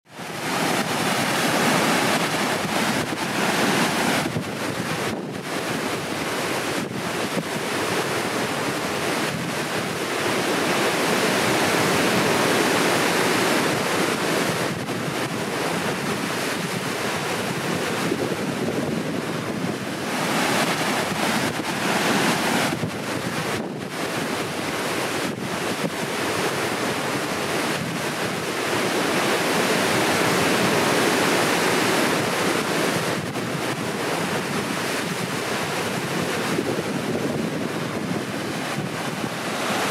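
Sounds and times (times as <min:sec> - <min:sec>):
waterfall roaring: 0:00.1 - 0:39.9.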